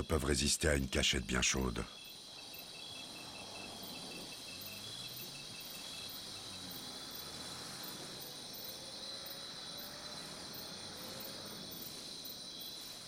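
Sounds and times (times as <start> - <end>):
crickets trilling: 0.0 - 13.0
fast pulsing cricket chirp: 0.0 - 13.0.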